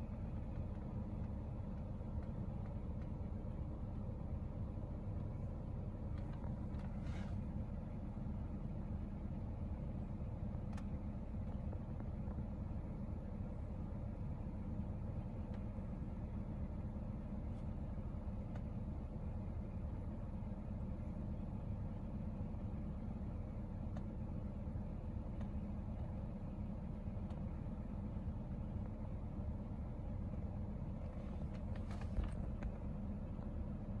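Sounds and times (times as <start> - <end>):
low background rumble: 0.0 - 34.0.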